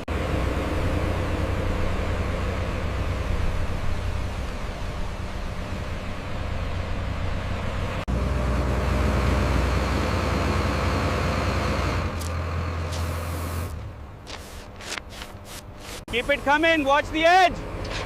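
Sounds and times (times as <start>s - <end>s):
diesel machinery engine drone: 0.0s - 14.7s, 16.1s - 18.0s.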